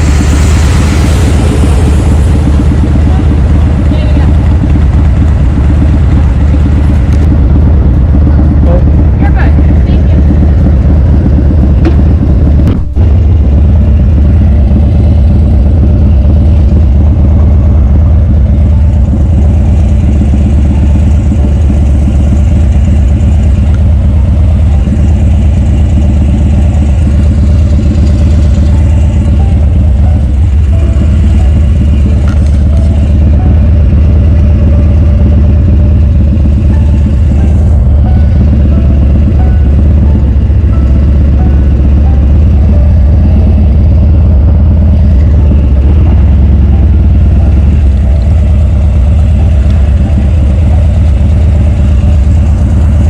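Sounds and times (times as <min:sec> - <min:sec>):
vehicle driving with road noise: 0:00.0 - 0:53.0.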